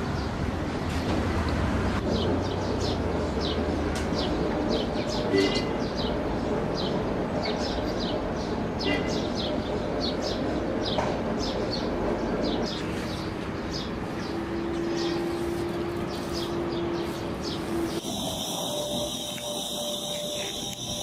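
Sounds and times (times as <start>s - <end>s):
steady background noise: 0.0s - 21.0s
small birds chirping: 2.1s - 21.0s.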